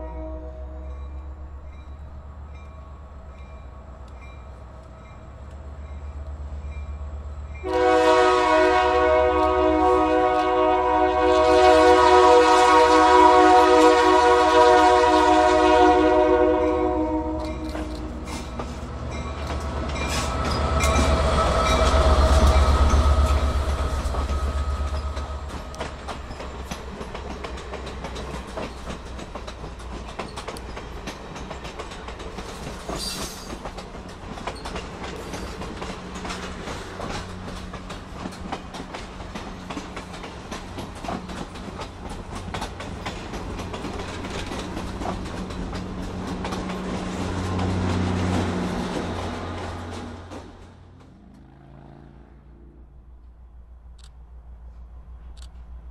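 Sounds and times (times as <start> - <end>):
diesel locomotive engine rumble: 0.0 - 55.9
low locomotive hum: 0.0 - 55.9
clickety-clack of train wheels: 2.5 - 51.6.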